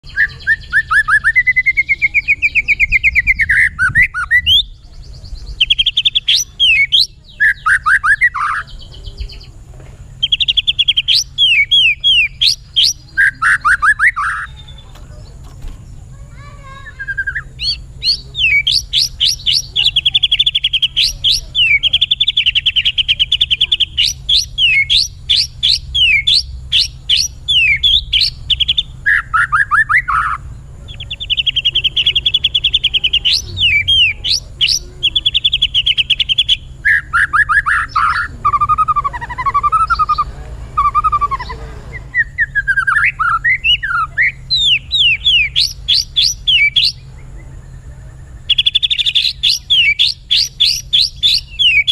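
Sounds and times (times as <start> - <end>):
songbird trills and whistles: 0.0 - 15.5, 16.4 - 51.9.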